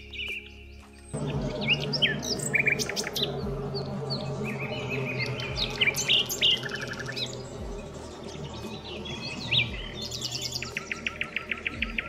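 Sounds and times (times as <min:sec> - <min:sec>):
small songbirds chirping: 0:00.0 - 0:12.0
faint low steady drone: 0:01.1 - 0:12.0.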